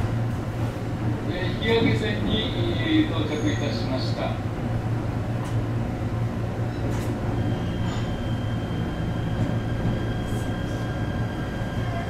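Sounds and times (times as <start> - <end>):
train cabin hum and rumble: 0.0 - 12.0.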